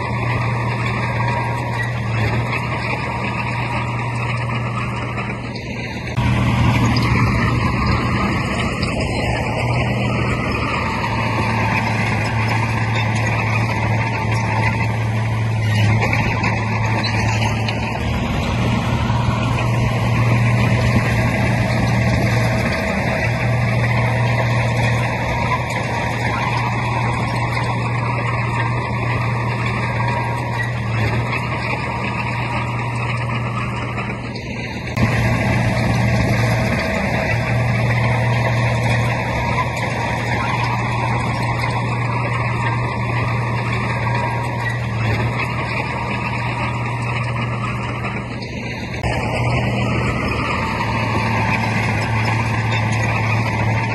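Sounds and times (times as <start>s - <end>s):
heavy diesel engine droning: 0.0s - 53.9s.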